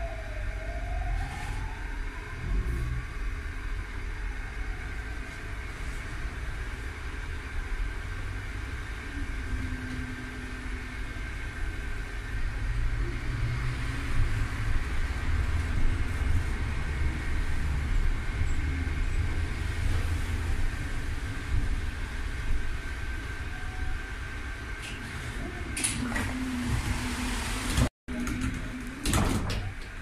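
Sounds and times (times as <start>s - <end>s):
tram wheels rumbling on rails: 0.0s - 30.0s.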